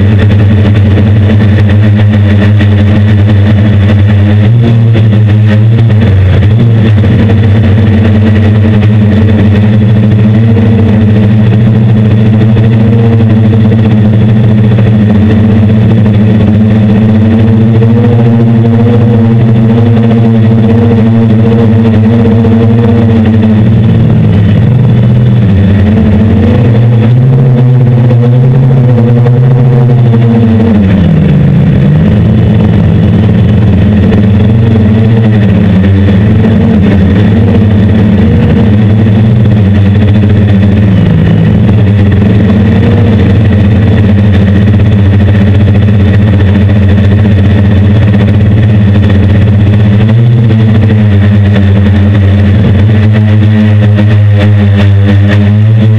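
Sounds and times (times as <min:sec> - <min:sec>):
drone motors buzzing: 0:00.0 - 0:55.9.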